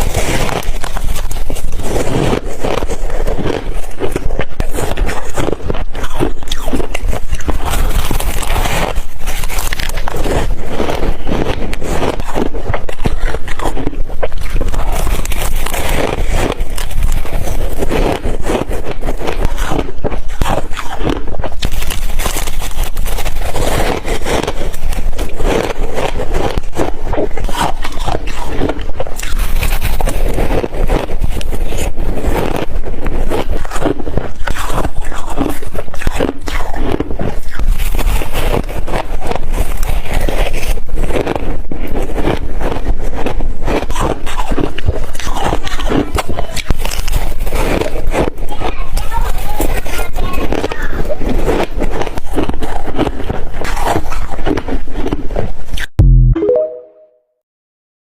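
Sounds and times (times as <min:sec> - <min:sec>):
ice being chewed: 0:00.0 - 0:55.9.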